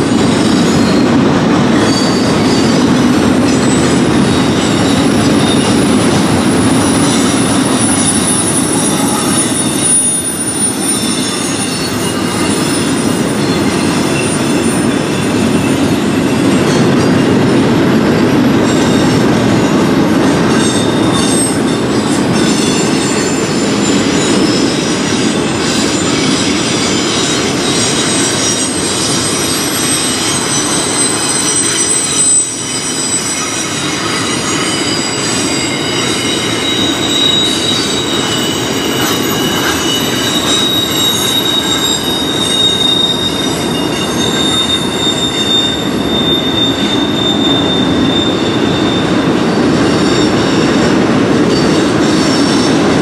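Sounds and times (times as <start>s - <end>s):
train wheels clattering on rail: 0.0s - 53.0s
wheel flanges squealing: 0.3s - 16.9s, 18.7s - 53.0s.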